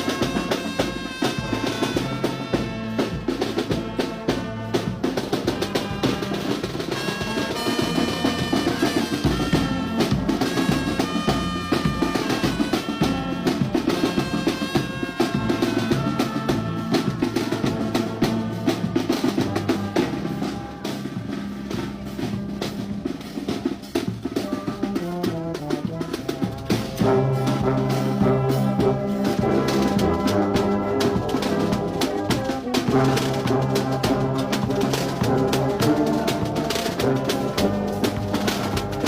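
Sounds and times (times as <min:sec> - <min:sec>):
brass band playing: 0:00.0 - 0:39.0
snare and bass drums beating: 0:00.0 - 0:39.0.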